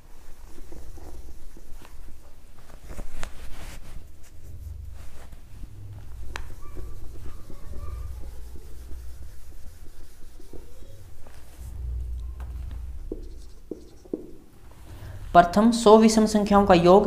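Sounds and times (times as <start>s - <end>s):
duster rubbing whiteboard: 0.2s - 15.3s.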